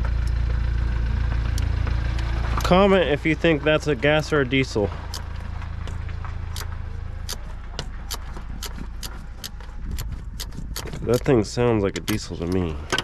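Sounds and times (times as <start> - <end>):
engine rumbling: 0.0 - 13.0
engine ticking: 0.0 - 13.0.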